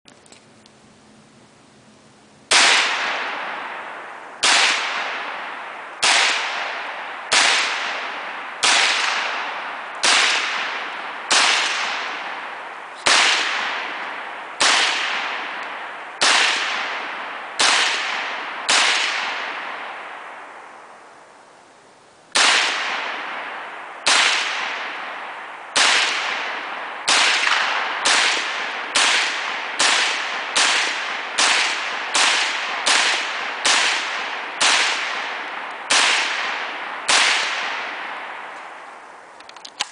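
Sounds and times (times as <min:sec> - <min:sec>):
rifle shots with echo: 0:02.5 - 0:21.0, 0:22.3 - 0:39.2.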